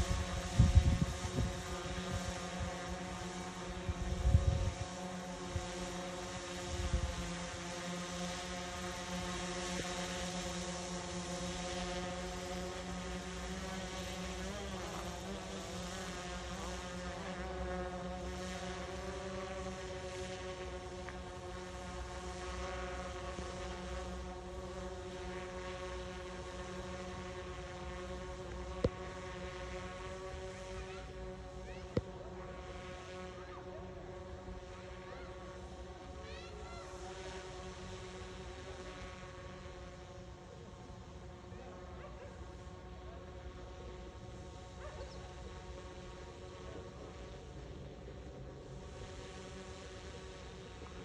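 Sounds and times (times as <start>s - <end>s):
drone propellers buzzing: 0.0s - 51.0s.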